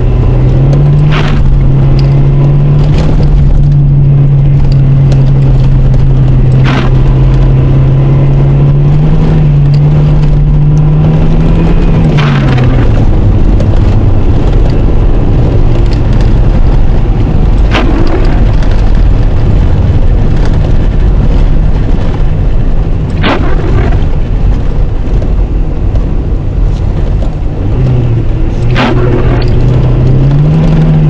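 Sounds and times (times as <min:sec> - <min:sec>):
tyre and road rumble: 0:00.0 - 0:31.0
windscreen wipers sweeping: 0:00.0 - 0:31.0.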